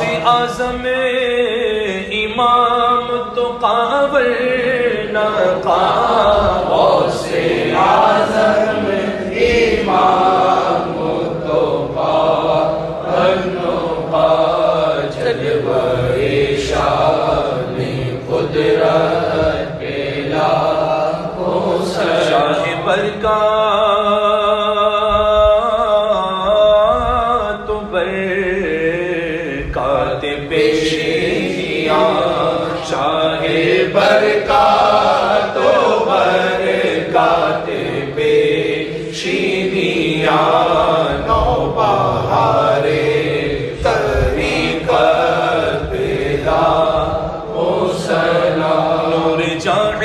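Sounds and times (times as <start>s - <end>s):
men singing devotional chant: 0.0s - 50.0s.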